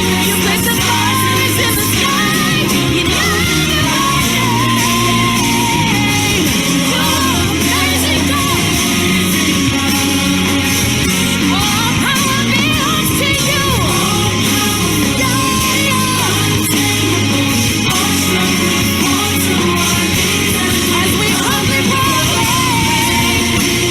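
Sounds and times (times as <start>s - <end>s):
bass notes: 0.0s - 23.9s
person singing: 0.0s - 23.9s
worship band playing: 0.0s - 23.9s.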